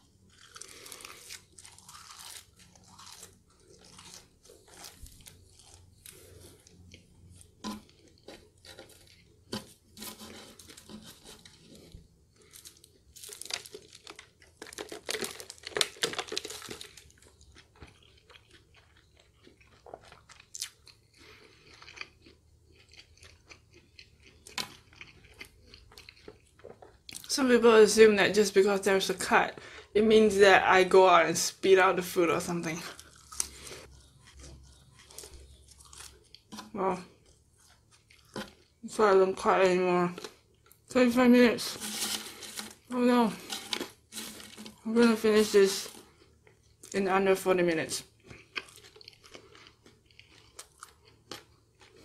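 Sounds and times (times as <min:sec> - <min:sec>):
person chewing crunchy fries: 0:00.0 - 0:27.3, 0:32.6 - 0:40.9, 0:41.6 - 0:47.0, 0:48.0 - 0:52.0.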